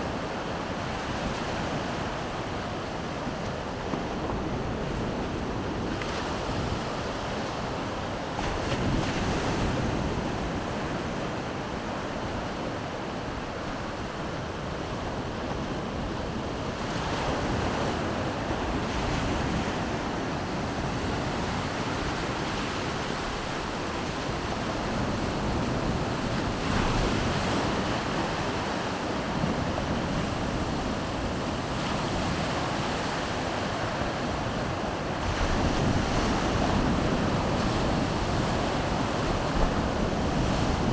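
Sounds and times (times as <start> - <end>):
wind buffeting microphone: 0.1 - 40.9.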